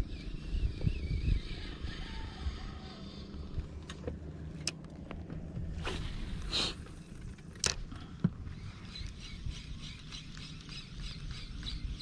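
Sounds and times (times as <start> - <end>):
water around a boat: 0.0 - 12.0
wind rumbling on microphone: 0.0 - 12.0.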